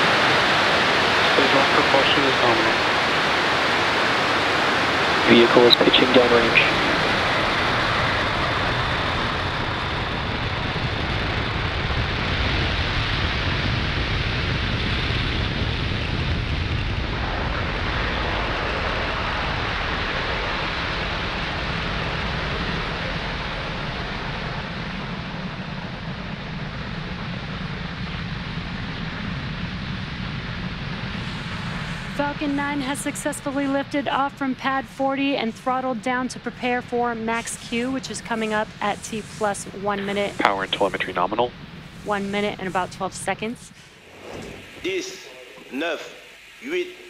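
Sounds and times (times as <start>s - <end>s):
rocket engines rushing rumble: 0.0s - 47.0s.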